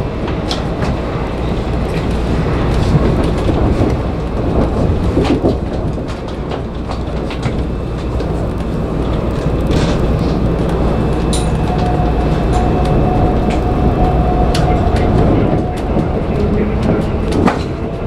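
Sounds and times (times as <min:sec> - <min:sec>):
monorail rumble: 0:00.0 - 0:18.0.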